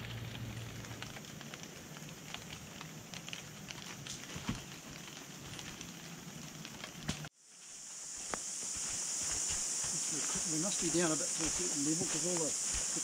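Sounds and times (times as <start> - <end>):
rain pattering and dripping: 0.0 - 7.3, 8.2 - 13.0.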